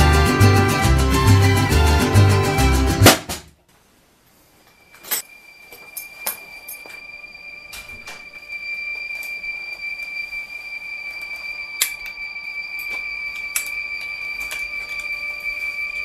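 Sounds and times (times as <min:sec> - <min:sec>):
steady high-pitched tone: 0:00.0 - 0:03.0, 0:04.6 - 0:16.0.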